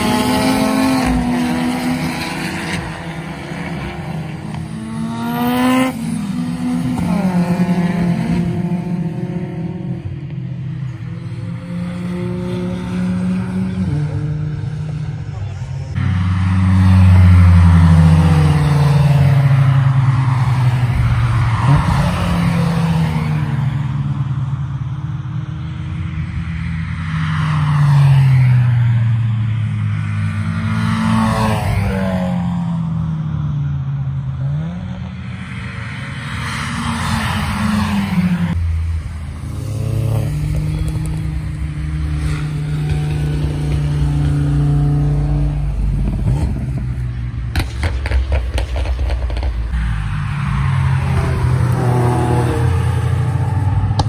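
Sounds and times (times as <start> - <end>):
race cars passing: 0.0 - 54.0.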